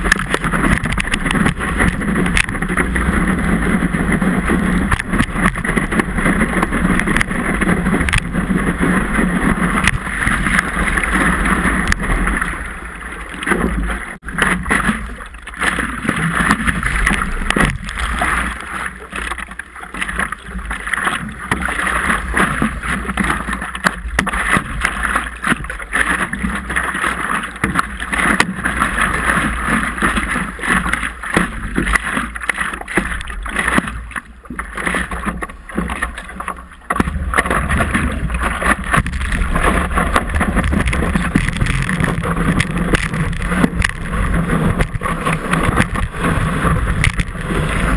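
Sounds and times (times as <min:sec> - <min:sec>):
water splashing against paddleboard: 0:00.0 - 0:47.9.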